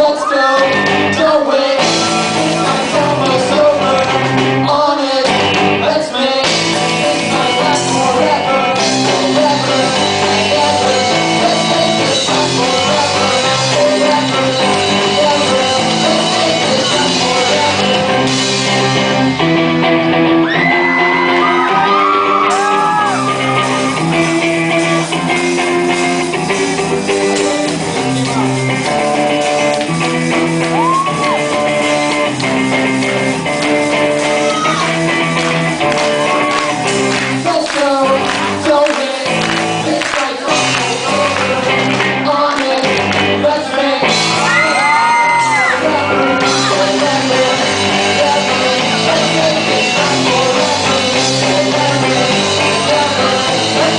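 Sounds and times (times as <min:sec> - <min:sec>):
loud sung and shouted vocals: 0:00.0 - 0:19.5, 0:20.2 - 0:25.2, 0:34.3 - 0:53.9
live rock band playing: 0:00.0 - 0:53.9.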